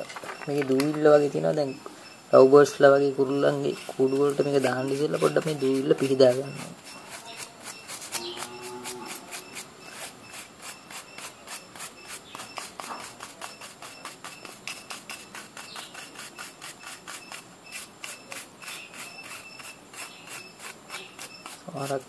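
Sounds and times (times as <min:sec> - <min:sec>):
cuttlebone being scraped: 0:02.4 - 0:22.0.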